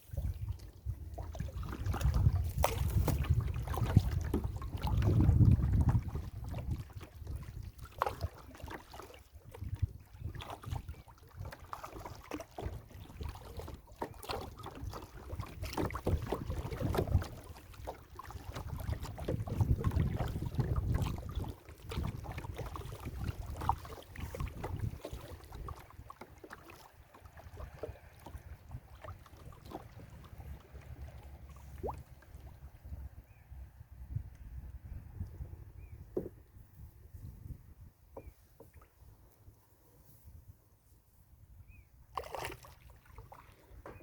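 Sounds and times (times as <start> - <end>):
wind rumbling on microphone: 0.0 - 26.2, 27.1 - 41.9
water splashing and lapping: 0.0 - 44.0.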